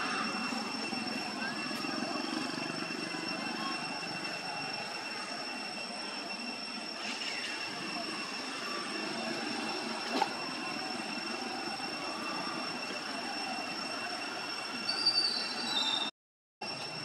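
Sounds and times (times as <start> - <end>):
high-pitched two-tone drone: 0.0 - 17.0.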